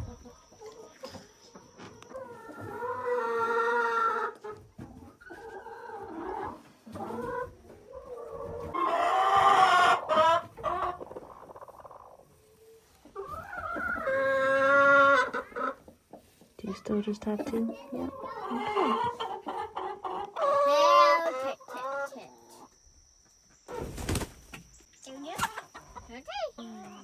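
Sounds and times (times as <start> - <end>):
hens clucking: 0.0 - 27.0.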